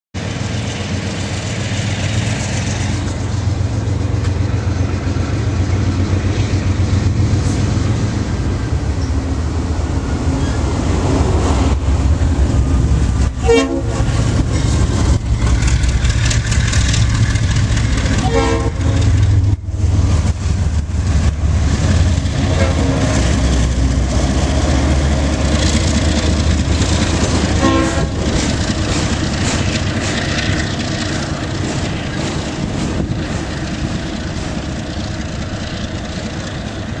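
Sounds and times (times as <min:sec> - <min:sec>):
train rumbling past: 0:00.2 - 0:37.0.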